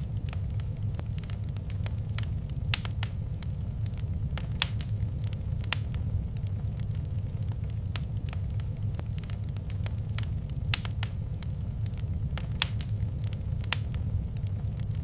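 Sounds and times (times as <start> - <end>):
fire crackling and popping: 0.0 - 15.0
wood fire burning: 0.0 - 15.0.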